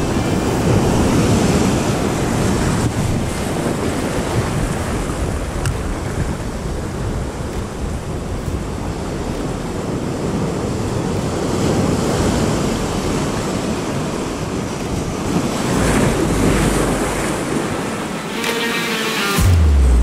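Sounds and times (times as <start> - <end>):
wind rumble on microphone: 0.0 - 18.4
surf breaking on rocks: 0.0 - 19.7.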